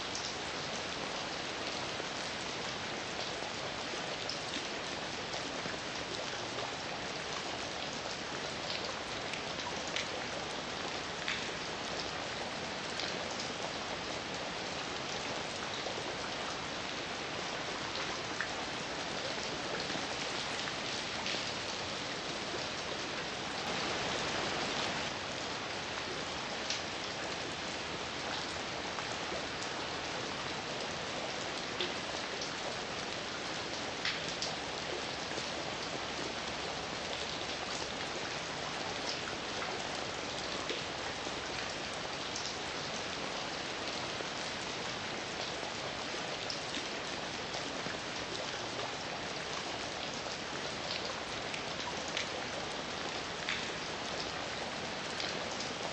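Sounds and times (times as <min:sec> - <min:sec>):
heavy rain falling: 0:02.7 - 0:55.9.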